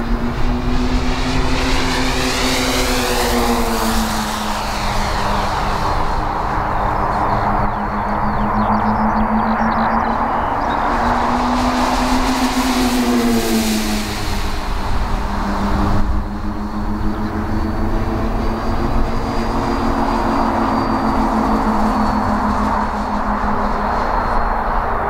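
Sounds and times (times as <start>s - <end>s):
model plane engines droning: 0.0s - 25.0s
wind on microphone: 0.0s - 25.0s.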